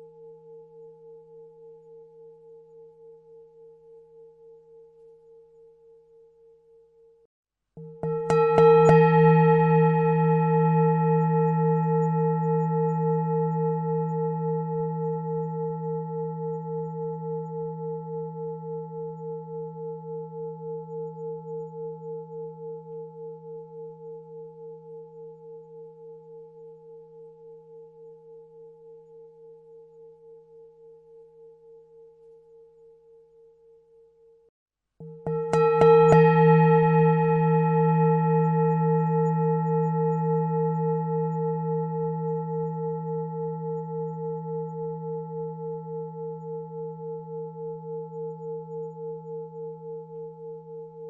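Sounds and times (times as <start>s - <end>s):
singing bowl ringing: 0.0s - 51.0s.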